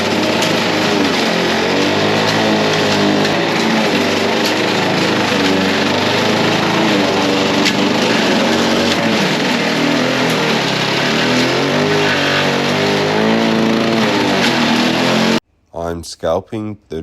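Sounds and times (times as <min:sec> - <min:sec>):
lawn mower engine under load: 0:00.0 - 0:15.4.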